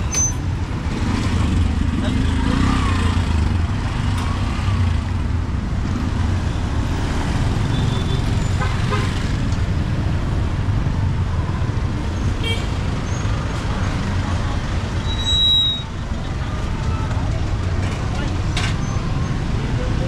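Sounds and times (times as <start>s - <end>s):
street traffic engines: 0.0s - 20.0s.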